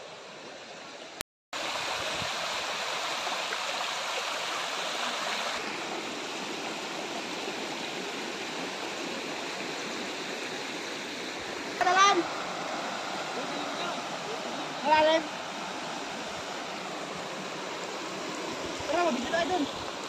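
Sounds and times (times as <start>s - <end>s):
rushing river and waterfall: 0.0s - 20.0s.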